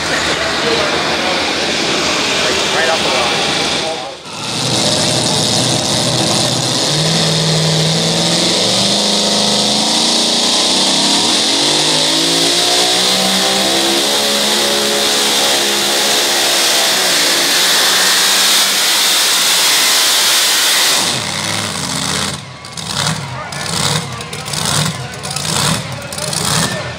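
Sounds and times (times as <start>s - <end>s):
supercharged engine at full throttle: 0.0s - 26.9s.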